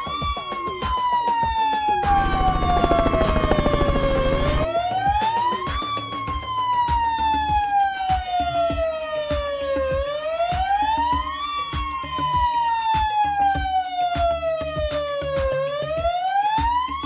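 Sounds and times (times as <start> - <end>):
toy fire engine siren wailing: 0.0 - 17.0.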